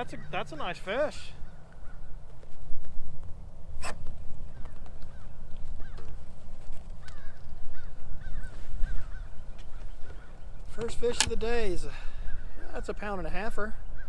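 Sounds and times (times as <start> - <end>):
faint bird calls: 0.0 - 2.8, 3.6 - 14.0
wind buffeting microphone: 0.0 - 14.0.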